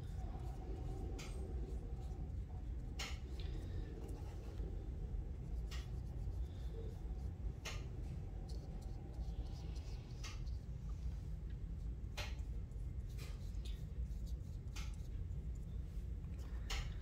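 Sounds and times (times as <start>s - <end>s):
paintbrush scratching: 0.0s - 11.0s, 11.7s - 15.8s
room hum: 0.0s - 17.0s.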